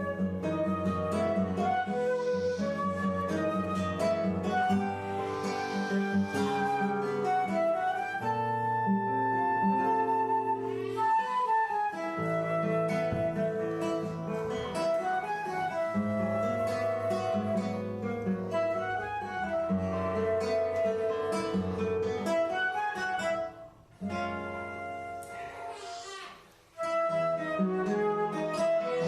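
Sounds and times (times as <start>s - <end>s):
acoustic guitar plucking chords: 0.0s - 25.8s
slow flute melody: 0.0s - 29.0s.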